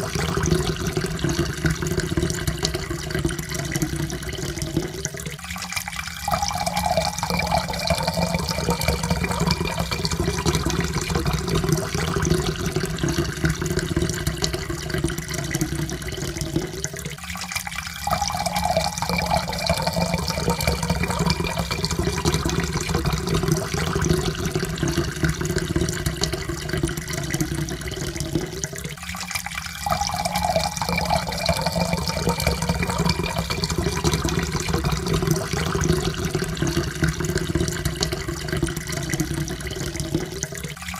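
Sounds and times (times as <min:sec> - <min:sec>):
water pouring into a cup: 0:00.0 - 0:40.9.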